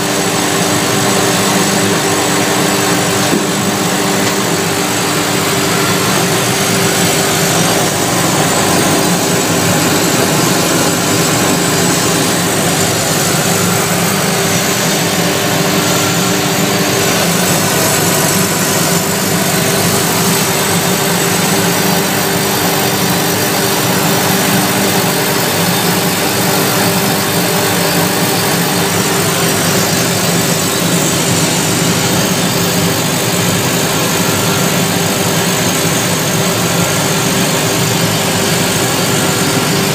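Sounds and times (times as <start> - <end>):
machine mechanical hum: 0.0 - 39.9.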